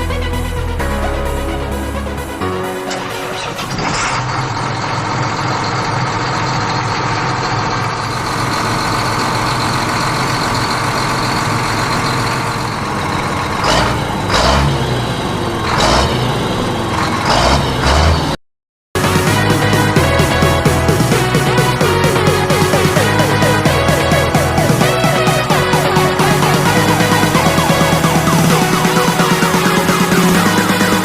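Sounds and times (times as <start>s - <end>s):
tractor engine running: 0.1s - 18.4s, 19.0s - 31.0s.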